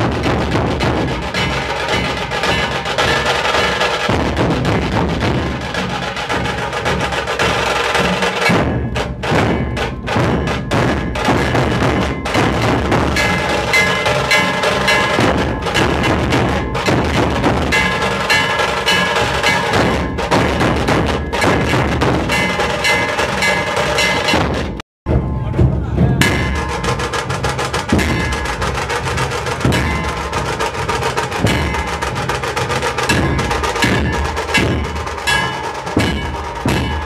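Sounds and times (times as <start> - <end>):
dhol drums beaten in driving rhythm: 0.0 - 37.0
steady metallic ringing: 0.0 - 37.0.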